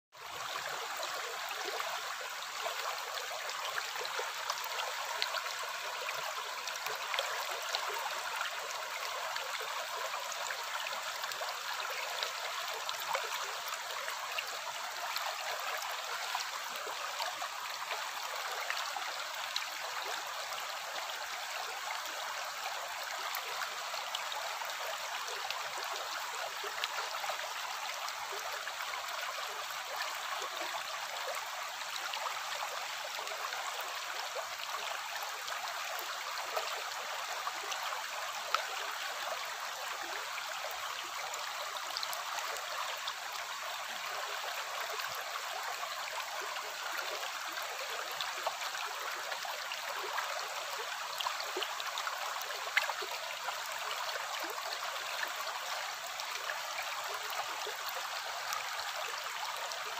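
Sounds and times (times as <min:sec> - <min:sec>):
stream babbling over stones: 0:00.2 - 0:59.9.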